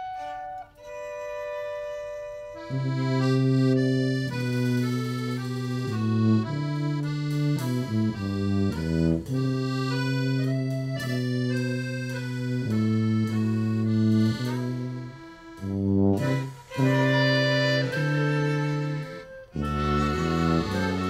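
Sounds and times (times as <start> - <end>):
accordion playing slow melody: 0.0 - 21.0.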